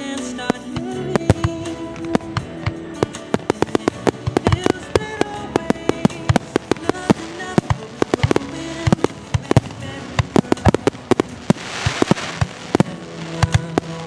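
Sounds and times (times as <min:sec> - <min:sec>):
fireworks bursting: 0:00.0 - 0:14.0
pop ballad playing: 0:00.0 - 0:14.0.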